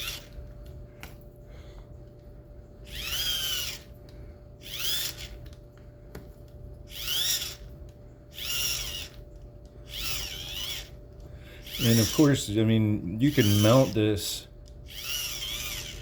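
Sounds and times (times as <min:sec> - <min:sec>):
high motor whine: 0:00.0 - 0:01.2, 0:02.8 - 0:05.6, 0:06.8 - 0:16.0.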